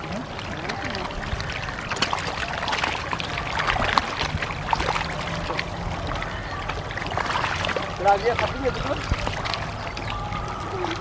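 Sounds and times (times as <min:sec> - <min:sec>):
fish splashing at water surface: 0:00.0 - 0:11.0.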